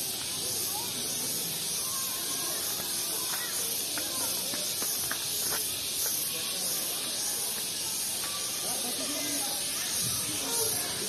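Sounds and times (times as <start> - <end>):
faint chirps: 0.0 - 11.0
high-pitched hiss: 0.0 - 11.0.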